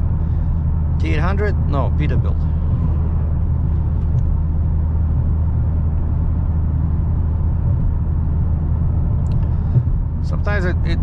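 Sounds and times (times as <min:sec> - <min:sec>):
car engine cruising: 0:00.0 - 0:11.0
road and tyre noise: 0:00.0 - 0:11.0.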